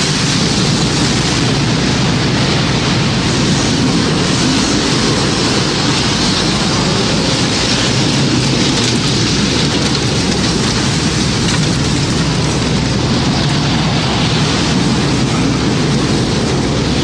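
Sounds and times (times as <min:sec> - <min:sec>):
heavy rain: 0:00.0 - 0:17.0
roaring wind: 0:00.0 - 0:17.0.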